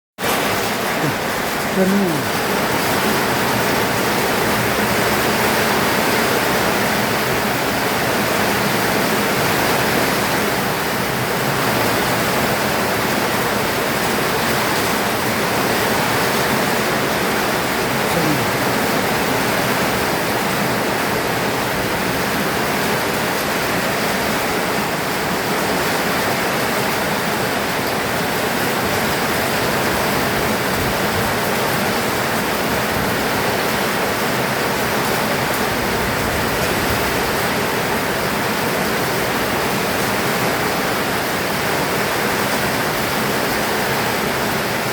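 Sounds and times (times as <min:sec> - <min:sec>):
heavy rain pouring: 0:00.2 - 0:44.9.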